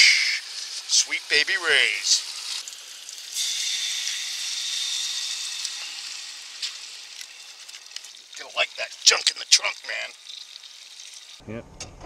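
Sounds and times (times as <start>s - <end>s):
sauce sizzling in hot cup: 0.0s - 11.4s.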